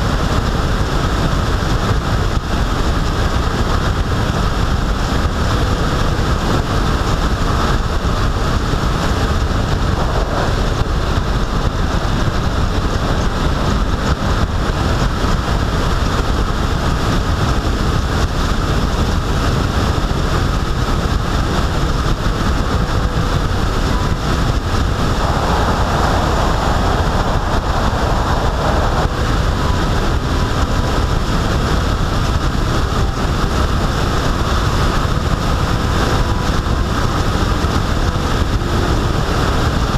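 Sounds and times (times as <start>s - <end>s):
road and tyre noise: 0.0s - 39.9s
wind on microphone: 0.0s - 39.9s.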